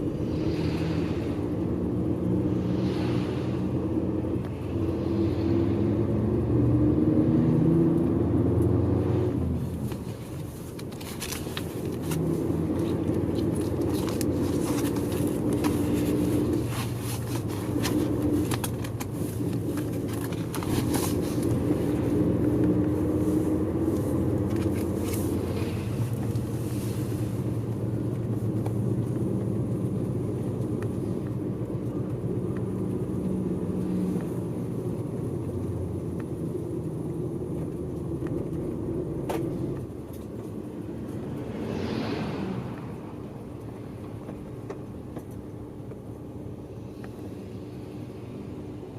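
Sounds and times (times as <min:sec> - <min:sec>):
bus engine and road hum: 0:00.0 - 0:48.9.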